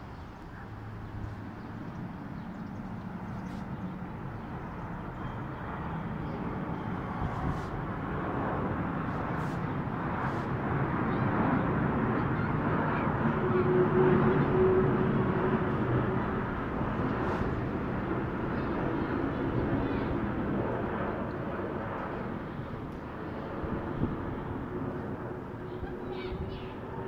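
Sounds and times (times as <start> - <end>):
jet airliner flying overhead: 0.0 - 27.0.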